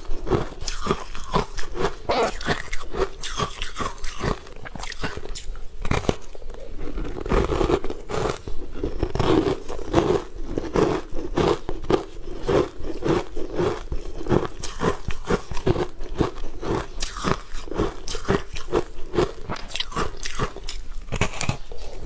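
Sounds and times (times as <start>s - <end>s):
crunching and chewing ice: 0.0s - 22.0s
wet mouth sounds: 0.0s - 22.0s.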